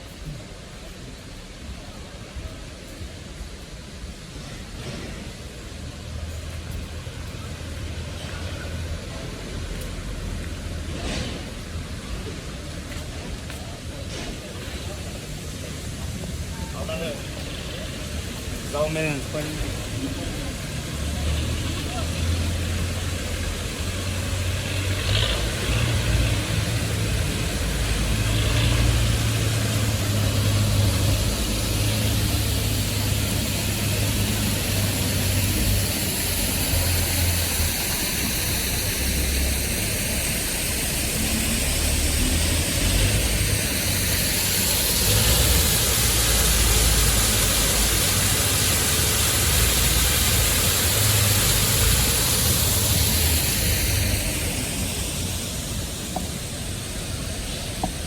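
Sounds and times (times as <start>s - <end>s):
car engines rumbling: 0.0s - 58.0s
road noise hiss: 0.0s - 58.0s.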